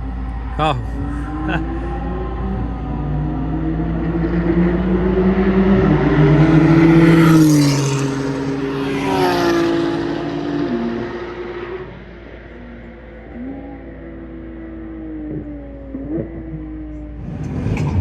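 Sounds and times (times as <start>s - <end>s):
sports car engine revving: 0.0s - 18.0s.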